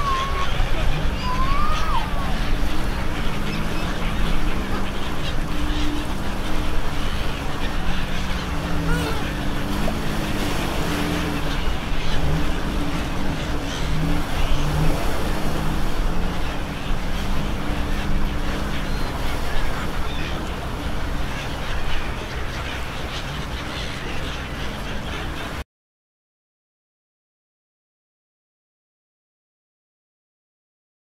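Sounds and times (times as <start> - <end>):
outdoor noise: 0.0 - 25.6.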